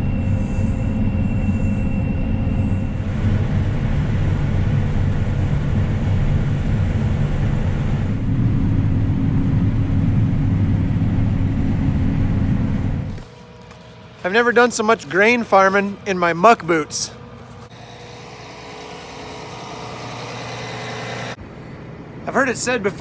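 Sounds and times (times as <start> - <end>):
deep machine drone: 0.0 - 22.4
thin high whine: 0.0 - 23.0.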